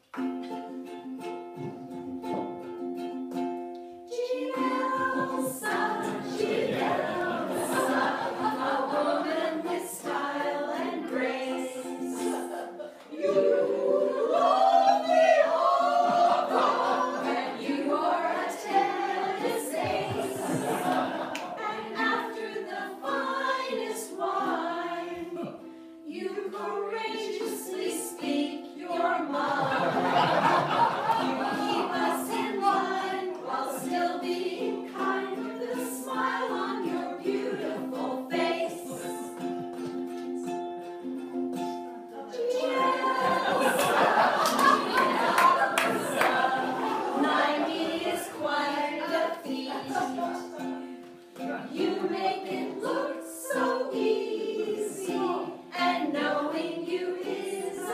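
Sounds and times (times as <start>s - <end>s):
women's chorus singing: 4.1s - 39.6s, 42.2s - 57.9s.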